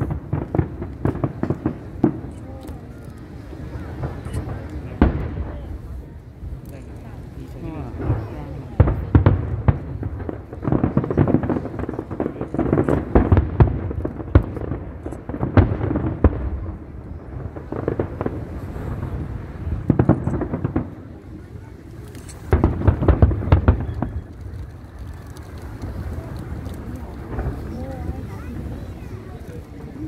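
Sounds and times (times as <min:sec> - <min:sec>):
firework bangs: 0:00.0 - 0:30.0.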